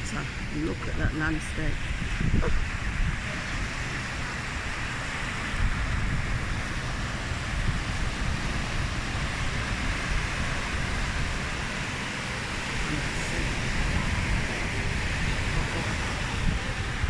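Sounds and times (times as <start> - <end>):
surf rushing onto beach: 0.0 - 17.0
wind buffeting microphone: 0.0 - 17.0.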